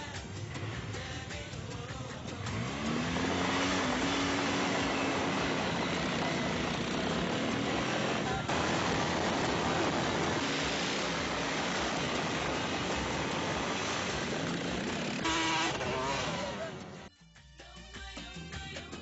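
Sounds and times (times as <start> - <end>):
utility vehicle engine running: 0.4 - 17.1.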